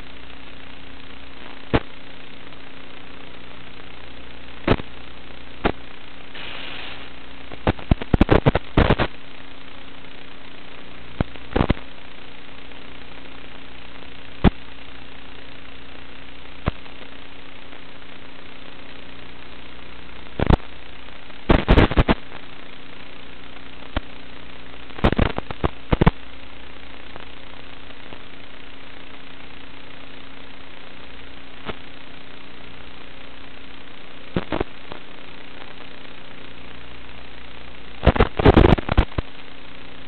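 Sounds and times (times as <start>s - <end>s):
faint hum: 0.0s - 40.0s
interference crackles and pops: 0.0s - 40.0s
radio static hiss: 0.0s - 40.0s.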